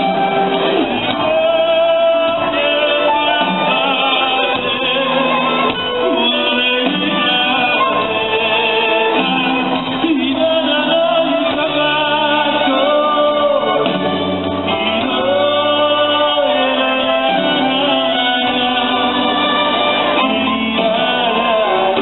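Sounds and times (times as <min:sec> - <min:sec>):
live band music: 0:00.0 - 0:22.0
man singing long notes: 0:00.8 - 0:22.0.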